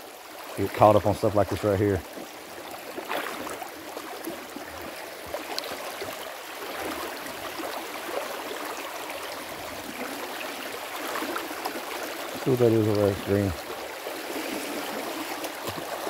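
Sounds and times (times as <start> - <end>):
creek water babbling over rocks: 0.0 - 16.0.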